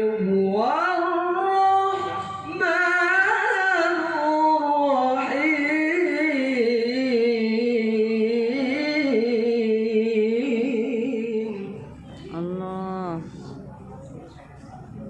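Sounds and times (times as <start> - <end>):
person reciting melodically: 0.0 - 13.6.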